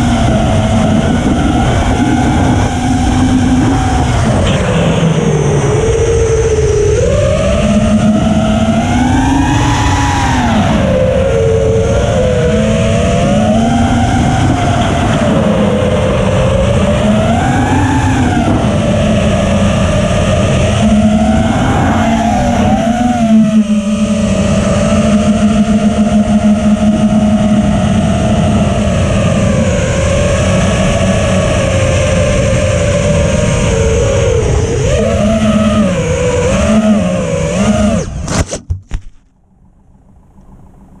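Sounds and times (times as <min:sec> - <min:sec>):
drone motors whining: 0:00.0 - 0:39.0
wind rumbling on microphone: 0:00.0 - 0:41.0.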